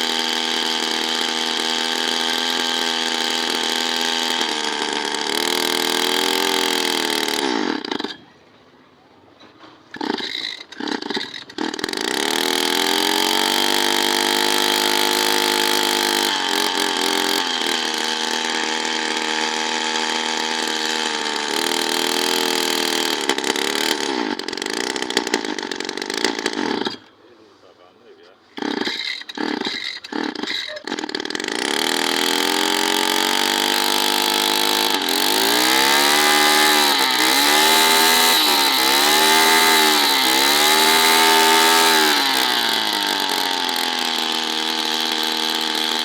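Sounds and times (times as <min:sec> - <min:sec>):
small two-stroke engine running: 0:00.0 - 0:08.7, 0:09.4 - 0:46.0.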